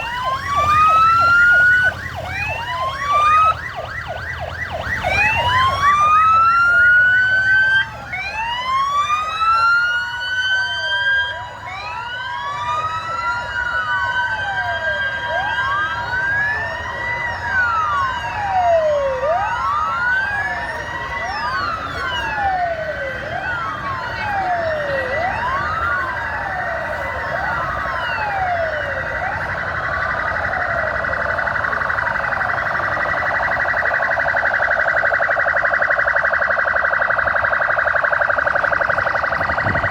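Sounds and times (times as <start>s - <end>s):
police sirens wailing: 0.0s - 39.9s.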